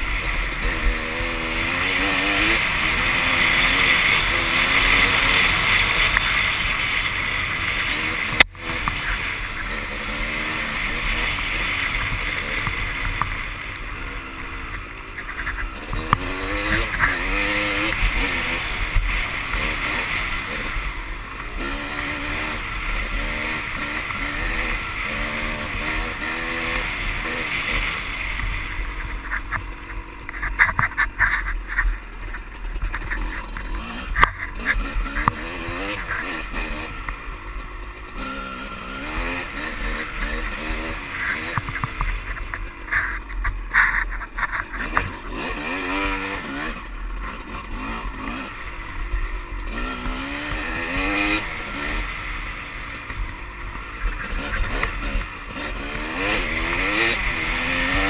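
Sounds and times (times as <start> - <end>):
bike knocking and rattling: 0.0 - 22.5, 23.3 - 58.0
dirt bike engine revving: 0.0 - 58.0.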